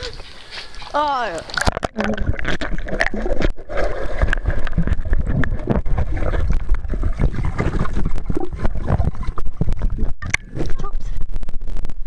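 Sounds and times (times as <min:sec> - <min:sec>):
muffled underwater rumble: 0:01.5 - 0:12.0.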